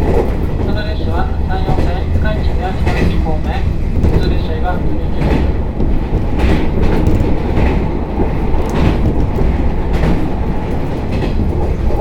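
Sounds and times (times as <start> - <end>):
low rumble of wheels on rail: 0.0 - 12.0
wheels clacking over rail joints: 0.0 - 12.0.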